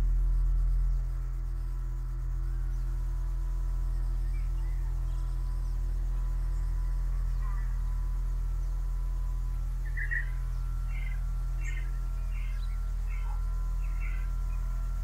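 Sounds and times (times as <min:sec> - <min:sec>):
low drone hum: 0:00.0 - 0:15.0.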